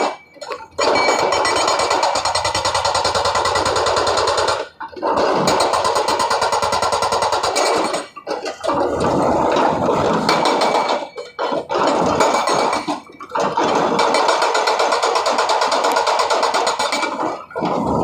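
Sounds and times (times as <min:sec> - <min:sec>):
hydraulic rock breaker hammering: 0:00.0 - 0:18.0.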